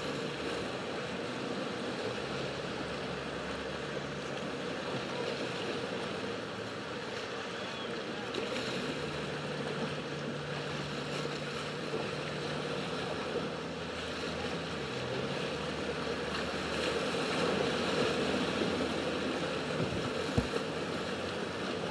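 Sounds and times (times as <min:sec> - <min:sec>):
outboard motor running: 0:00.0 - 0:21.9
waves washing along hull: 0:00.0 - 0:21.9.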